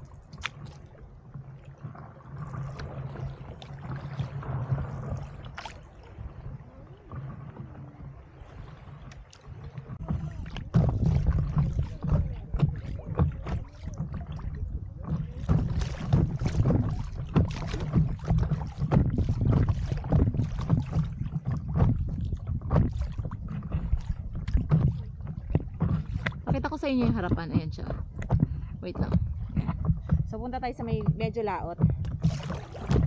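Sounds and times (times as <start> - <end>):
water splashing against paddle board: 0.0 - 33.0
wind rumble on microphone: 0.0 - 33.0.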